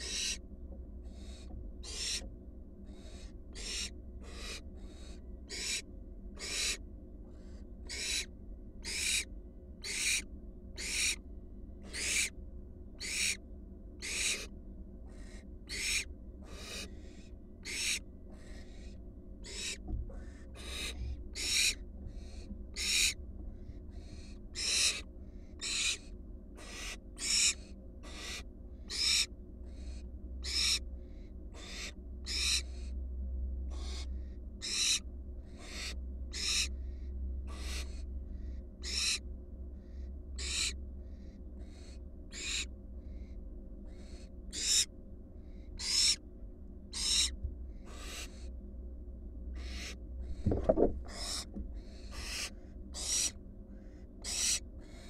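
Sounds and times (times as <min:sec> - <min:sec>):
young owls hissing: 0:00.0 - 0:00.4, 0:01.0 - 0:05.8, 0:06.4 - 0:11.2, 0:11.8 - 0:12.3, 0:13.0 - 0:13.4, 0:14.0 - 0:14.5, 0:15.1 - 0:32.9, 0:33.7 - 0:39.2, 0:39.8 - 0:46.2, 0:46.9 - 0:48.5, 0:49.6 - 0:55.0
low steady hum: 0:00.0 - 0:55.0.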